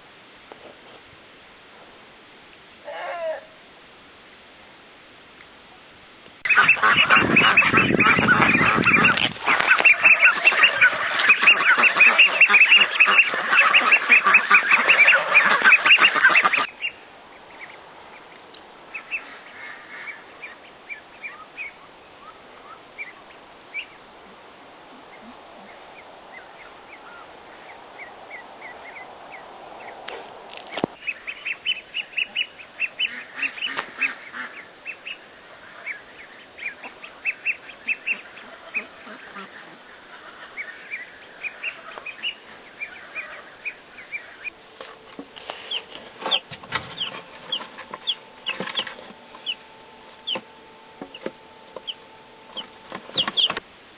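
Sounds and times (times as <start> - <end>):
poultry honking and peeping: 6.4 - 53.6.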